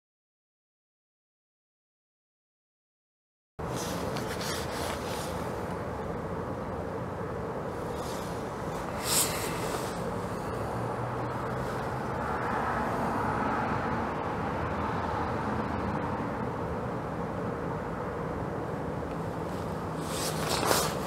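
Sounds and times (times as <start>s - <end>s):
steady hiss and low rumble: 3.6s - 21.0s.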